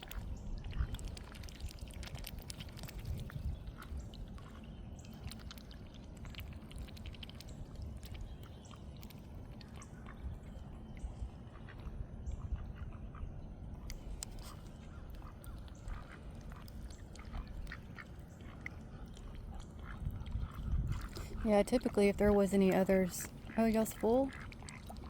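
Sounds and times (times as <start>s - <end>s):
small water splashes: 0.0s - 12.5s, 13.8s - 22.1s, 23.2s - 25.0s.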